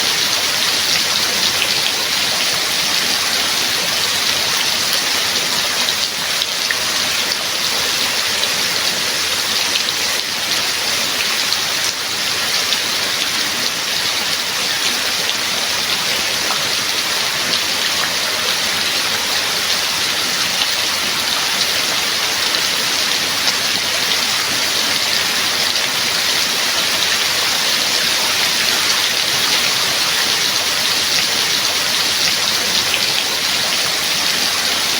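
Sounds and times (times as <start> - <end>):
heavy rain: 0.0 - 34.9.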